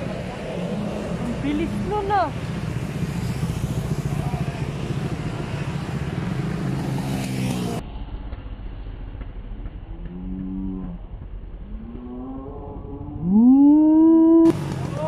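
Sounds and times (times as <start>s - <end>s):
dull traffic noise: 0.0s - 15.0s
scooter and motorcycle engines passing: 0.0s - 15.0s.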